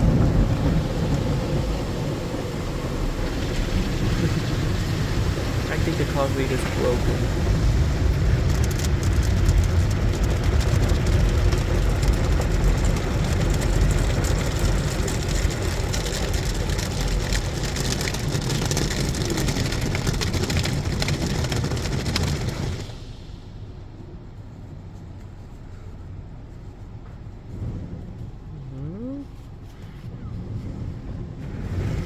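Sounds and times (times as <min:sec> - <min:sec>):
car wash spraying water: 0:00.0 - 0:28.5, 0:29.2 - 0:32.0
low rumble: 0:00.0 - 0:32.0.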